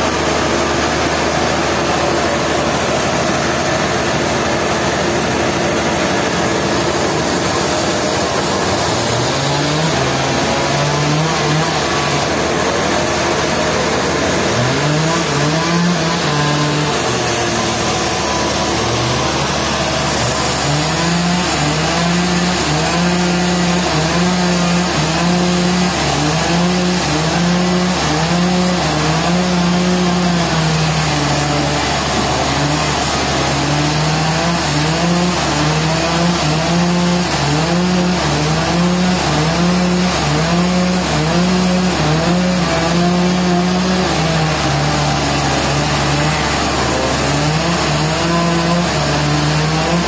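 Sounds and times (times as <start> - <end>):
band sawmill sawing: 0.0 - 50.0.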